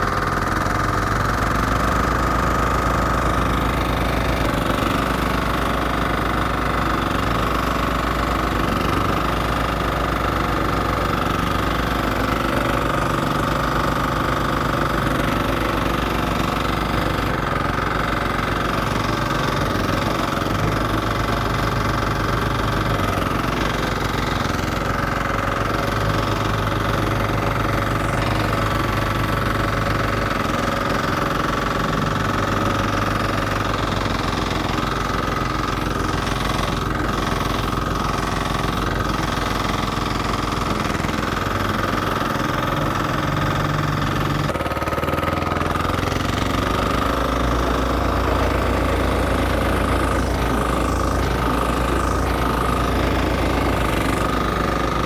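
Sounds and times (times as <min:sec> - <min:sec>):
small roller engine running: 0:00.0 - 0:55.0.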